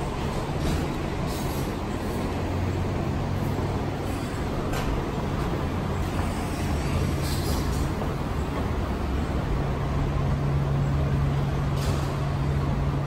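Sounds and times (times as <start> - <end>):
low rumble and hum of station: 0.0 - 13.0.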